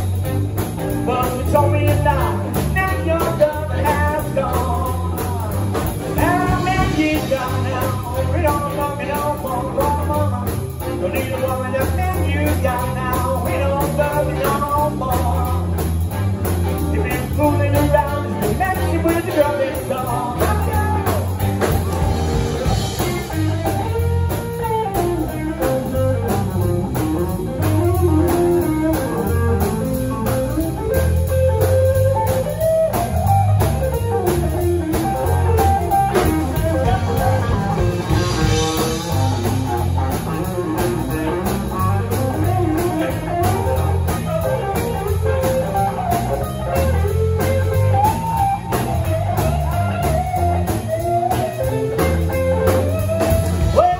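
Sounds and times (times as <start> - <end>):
blues band playing: 0.0 - 53.9
electric guitar: 0.0 - 53.9.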